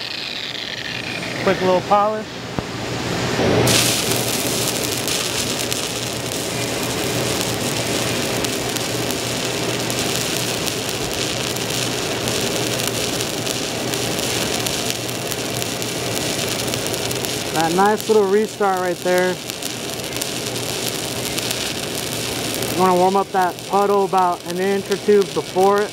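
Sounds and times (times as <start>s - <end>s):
welding arc crackling: 0.0s - 25.9s.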